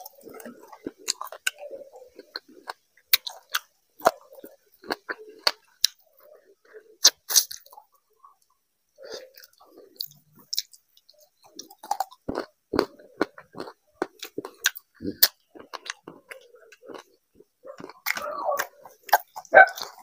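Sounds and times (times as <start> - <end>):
person chewing with smacking: 0.0 - 20.0.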